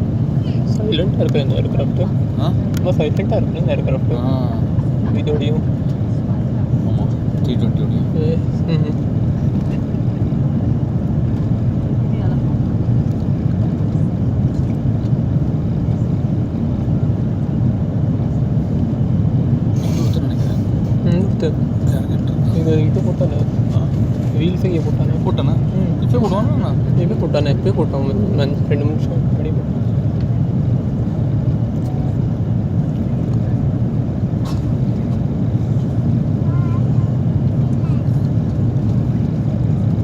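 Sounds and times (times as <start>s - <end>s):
airliner cabin engine rumble: 0.0s - 40.0s.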